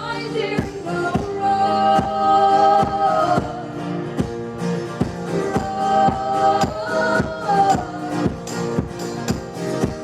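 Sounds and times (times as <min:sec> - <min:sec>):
live band playing pop-folk: 0:00.0 - 0:10.0.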